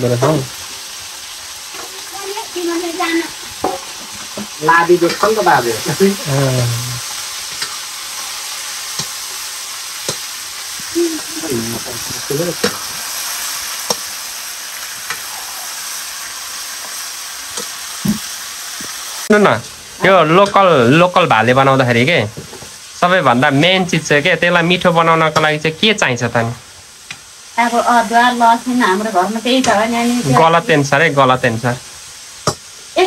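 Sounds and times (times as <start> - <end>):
meat sizzling in a wok: 0.0 - 33.0.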